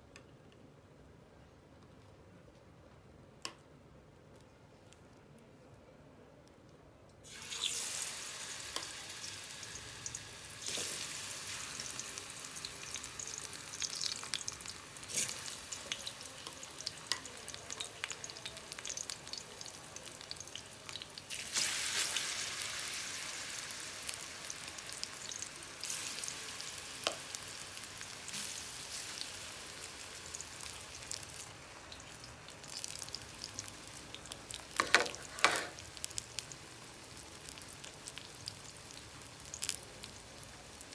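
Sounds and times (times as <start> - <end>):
plantain sizzling in hot oil: 7.2 - 40.9.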